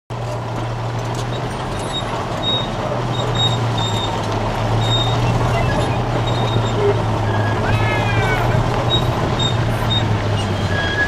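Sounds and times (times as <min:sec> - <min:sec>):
constant rushing noise: 0:00.1 - 0:11.0.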